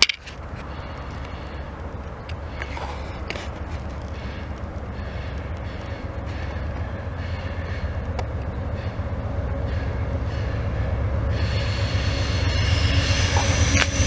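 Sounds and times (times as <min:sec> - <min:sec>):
train approaching rumble: 0:00.0 - 0:14.0.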